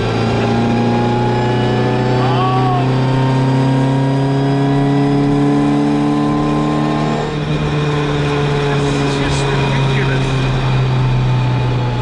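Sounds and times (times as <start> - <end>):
car engine pulling from inside cabin: 0.0 - 12.0.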